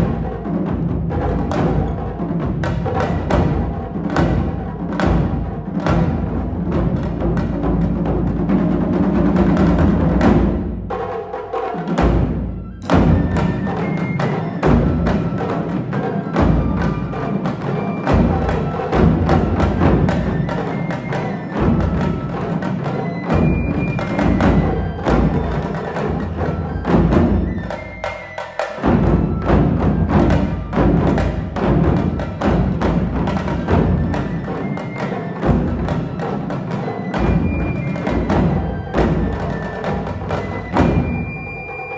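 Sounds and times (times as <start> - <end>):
taiko drum ensemble: 0.0 - 41.9.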